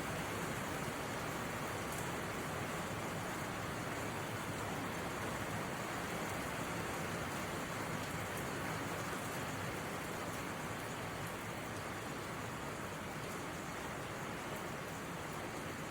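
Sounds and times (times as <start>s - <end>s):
steady rain hiss: 0.0s - 15.9s.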